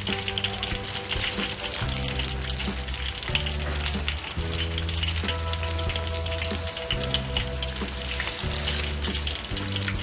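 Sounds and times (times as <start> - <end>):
background music low notes: 0.0 - 10.0
deep-frying sizzle with crackles: 0.0 - 10.0.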